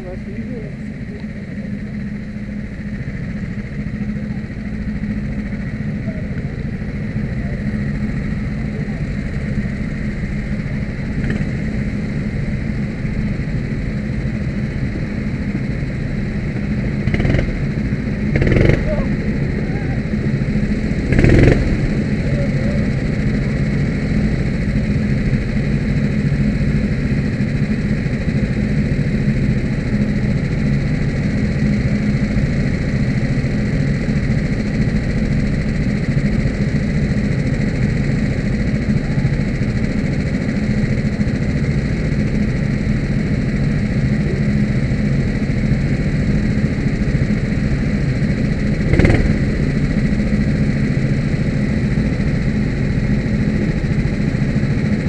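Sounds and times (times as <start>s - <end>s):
kart engine running: 0.0s - 55.0s.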